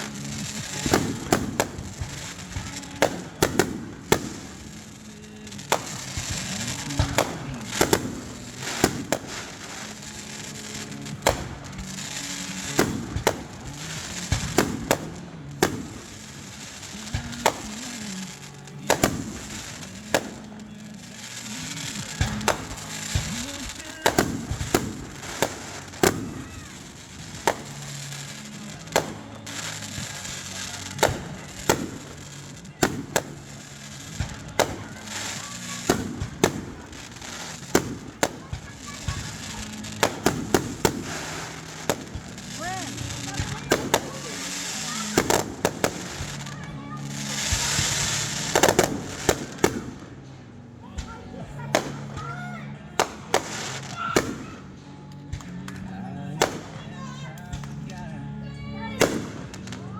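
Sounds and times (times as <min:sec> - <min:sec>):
fireworks bangs: 0:00.0 - 0:58.2, 0:58.9 - 0:59.9
fireworks crackling: 0:00.0 - 0:59.9
music: 0:00.0 - 0:59.9.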